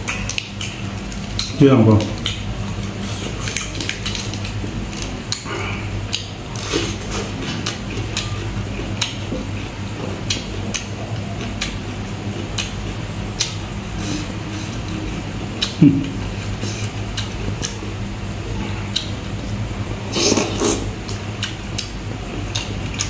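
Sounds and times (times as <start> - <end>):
chewing crisp vegetables: 0.0 - 23.0
steady low hum: 0.0 - 23.0.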